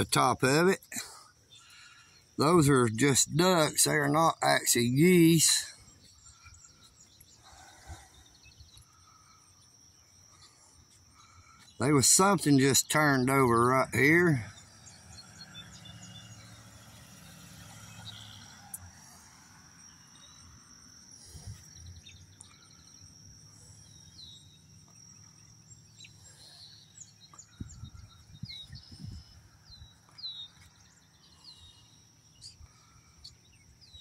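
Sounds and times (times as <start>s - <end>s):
high insect trill: 0.0s - 34.0s.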